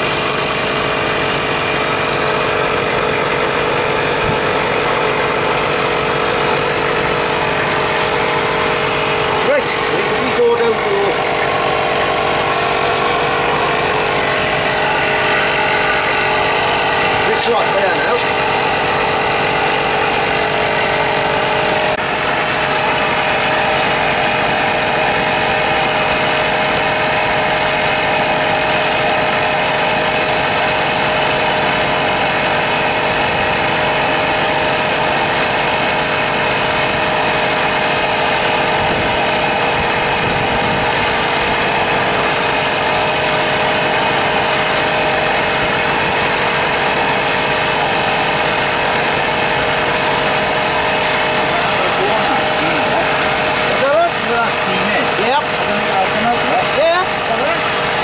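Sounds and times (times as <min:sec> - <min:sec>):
motor running with hum: 0:00.0 - 0:58.0.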